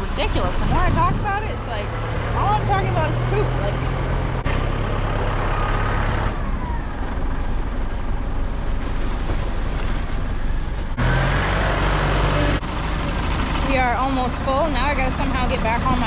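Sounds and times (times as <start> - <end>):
machinery noise: 0.0 - 16.0
tractor engine running: 0.0 - 16.0.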